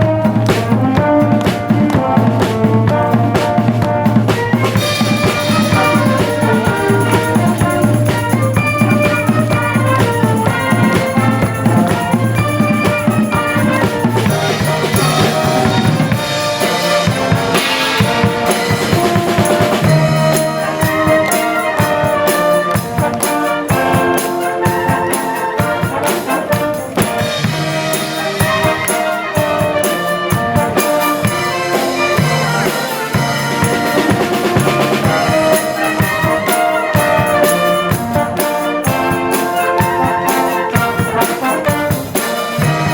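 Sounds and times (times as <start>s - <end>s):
brass band playing: 0.0s - 42.9s
drum kit beat: 0.0s - 42.9s.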